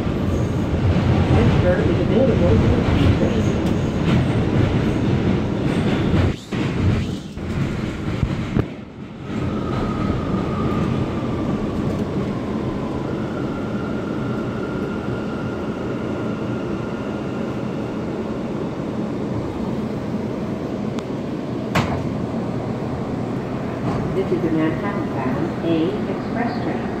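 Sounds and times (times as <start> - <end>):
high whine of train: 0.0 - 27.0
subway car rumbling on rails: 0.0 - 27.0.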